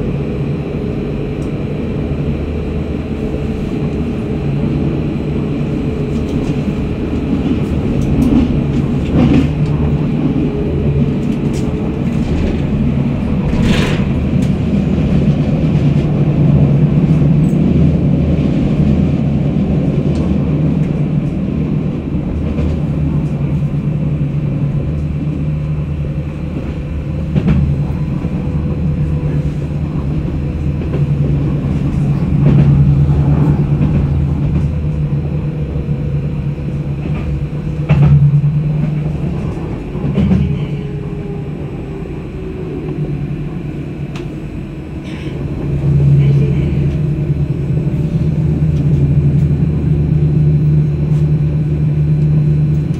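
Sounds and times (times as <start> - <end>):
tram rumbling on rails: 0.0 - 52.9.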